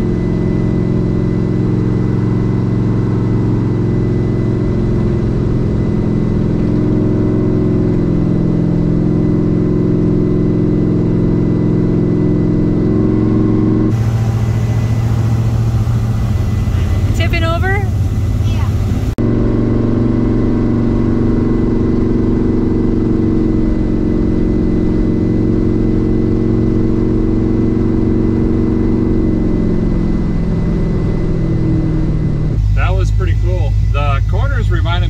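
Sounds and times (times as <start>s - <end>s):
engine and road noise inside vehicle: 0.0s - 35.0s
low vehicle cabin hum: 0.0s - 35.0s.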